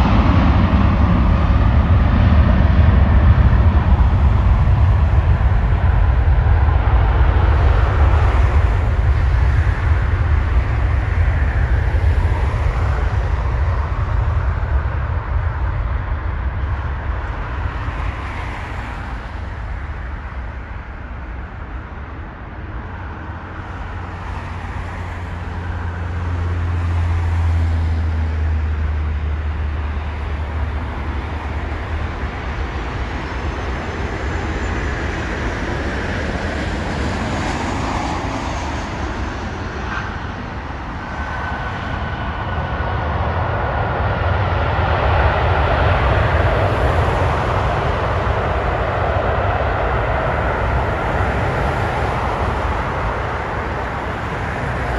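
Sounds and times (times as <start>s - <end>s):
jet engines deep rumble: 0.0s - 54.9s
jet engines high whine: 0.0s - 54.9s.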